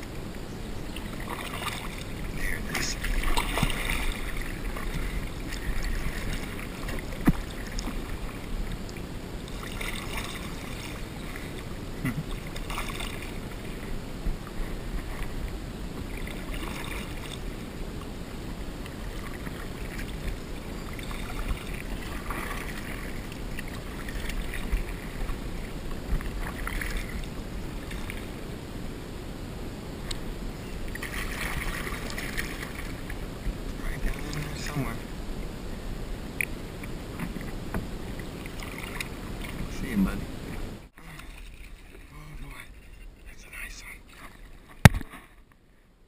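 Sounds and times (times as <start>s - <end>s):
paddle splashing in water: 0.0s - 28.4s, 30.7s - 35.0s, 36.4s - 43.2s, 43.9s - 45.5s.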